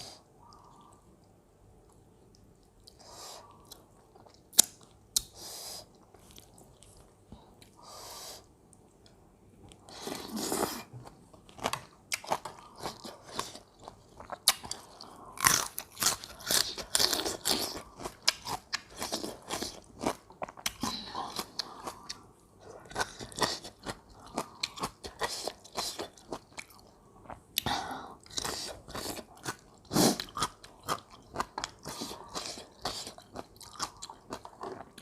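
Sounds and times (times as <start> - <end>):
chewing and crunching food: 0.0 - 7.8, 8.7 - 35.0.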